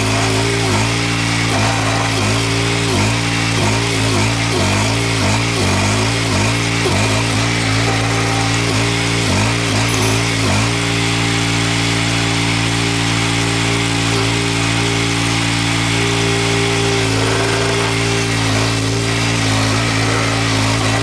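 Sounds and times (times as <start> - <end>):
stump grinder engine running: 0.0 - 21.0.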